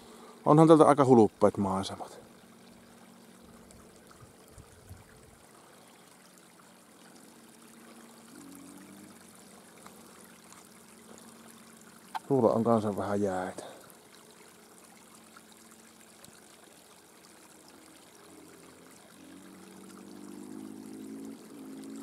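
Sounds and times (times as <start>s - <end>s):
small brook trickling: 0.0s - 22.0s.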